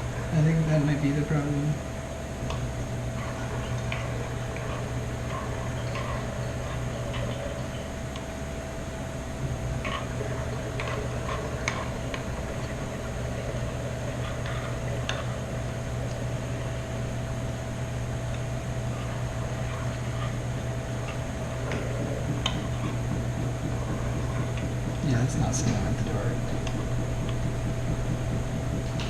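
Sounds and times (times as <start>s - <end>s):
low electrical hum: 0.0s - 29.0s
spoon stirring slime in bowl: 2.1s - 27.5s.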